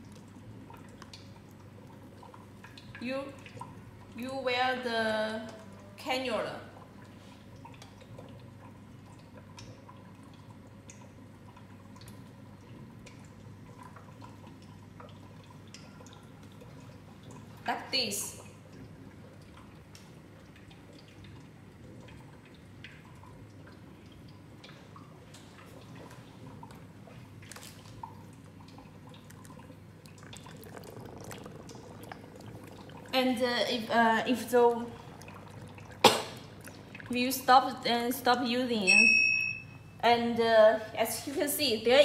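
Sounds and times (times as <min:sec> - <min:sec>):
water bubbling and dripping: 0:00.0 - 0:40.1
low machine hum: 0:00.0 - 0:42.0.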